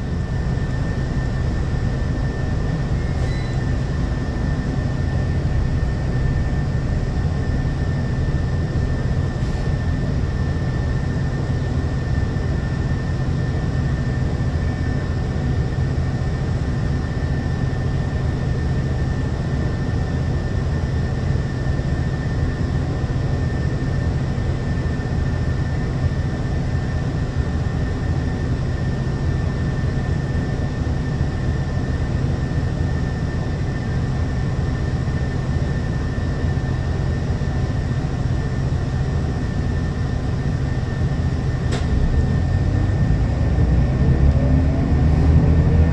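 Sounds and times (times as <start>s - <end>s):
bus engine idling: 0.0s - 45.9s.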